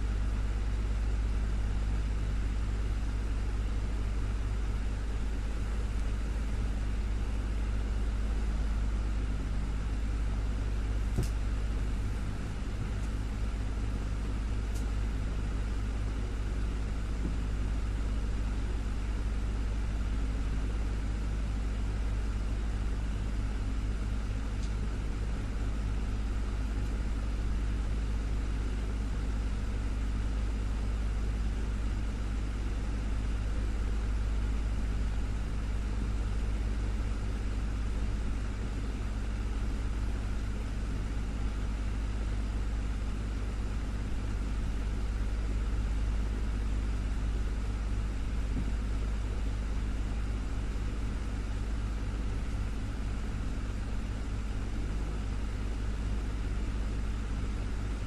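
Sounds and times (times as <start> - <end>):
desktop fan humming: 0.0 - 58.0.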